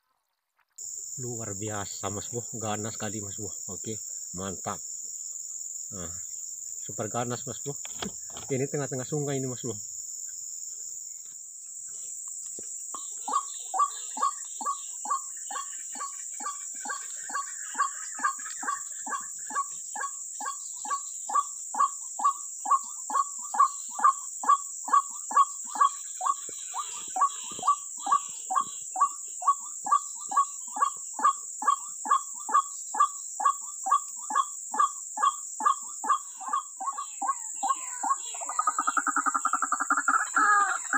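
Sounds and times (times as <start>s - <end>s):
high-pitched insect drone: 0.8s - 40.9s.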